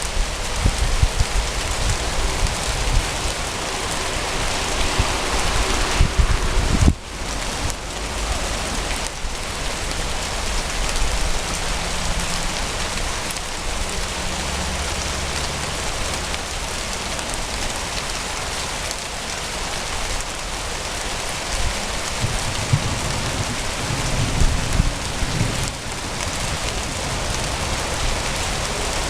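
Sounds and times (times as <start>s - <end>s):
thunder rumbling: 0.0s - 18.2s, 21.2s - 29.0s
heavy rain falling: 0.0s - 29.0s.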